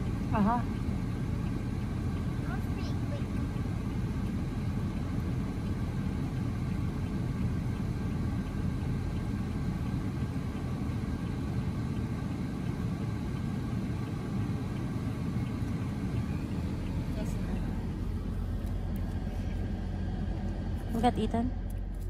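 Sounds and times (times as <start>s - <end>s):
air-conditioning blower running: 0.0s - 22.0s
low engine hum: 0.0s - 22.0s.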